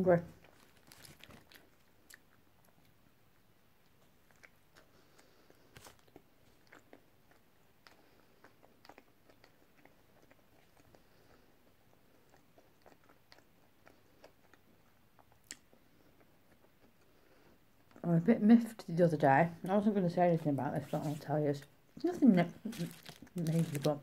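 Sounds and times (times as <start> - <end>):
chewing food: 0.3 - 18.0, 20.4 - 24.0.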